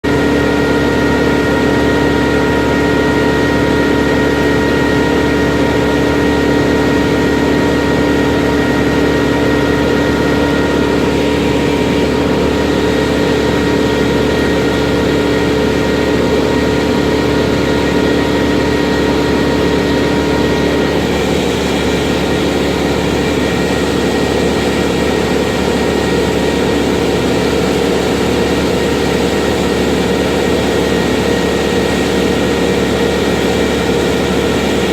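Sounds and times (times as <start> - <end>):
large engine running steadily: 0.0 - 34.9.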